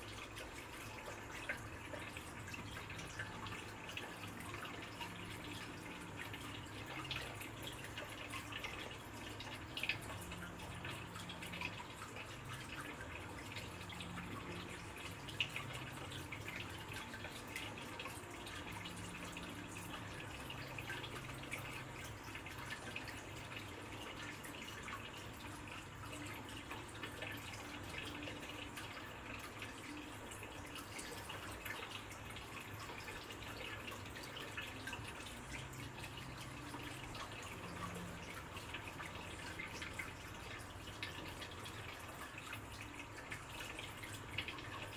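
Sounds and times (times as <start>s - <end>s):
water dripping and trickling: 0.0s - 44.9s.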